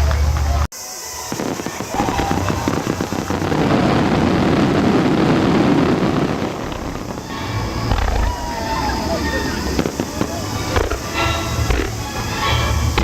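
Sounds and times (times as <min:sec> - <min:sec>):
fireworks popping and crackling: 0:01.2 - 0:13.0.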